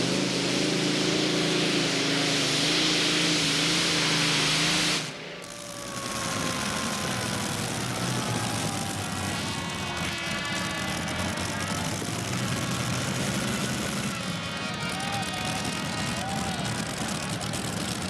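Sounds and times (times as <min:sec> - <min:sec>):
tractor engine whining and humming: 0:00.0 - 0:18.0.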